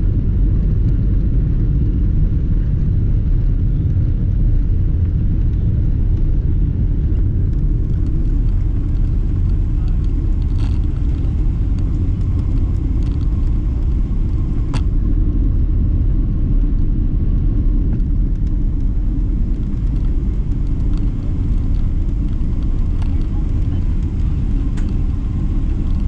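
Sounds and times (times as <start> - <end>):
aircraft cabin rumble: 0.0 - 26.0.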